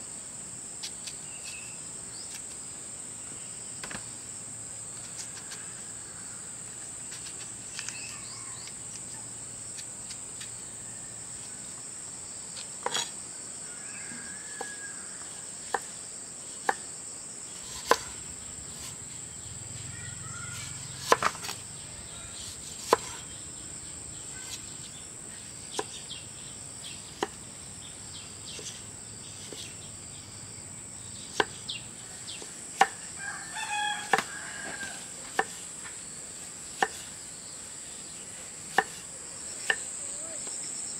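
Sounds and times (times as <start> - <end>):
crickets droning: 0.0 - 40.9.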